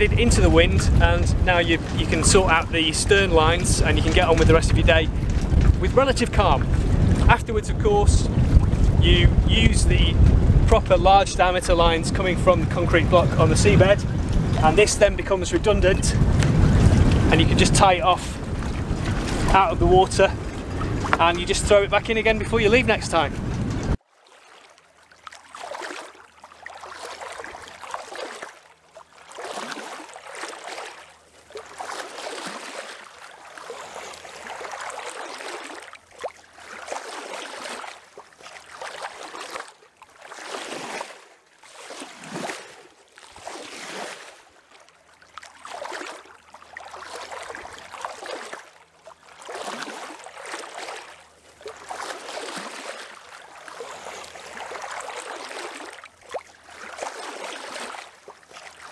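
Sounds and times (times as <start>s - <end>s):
water sloshing and lapping: 0.0s - 58.9s.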